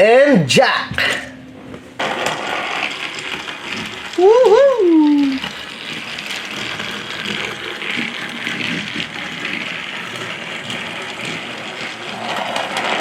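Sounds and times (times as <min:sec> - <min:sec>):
toy vehicles rattling whir: 0:02.0 - 0:13.0.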